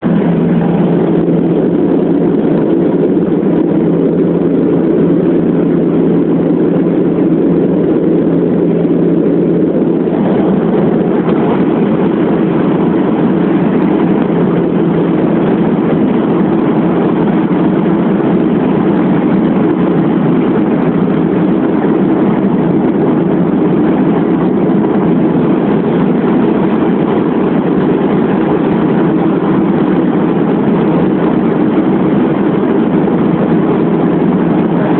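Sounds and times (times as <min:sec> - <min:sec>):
turboprop engines droning: 0:00.0 - 0:34.9.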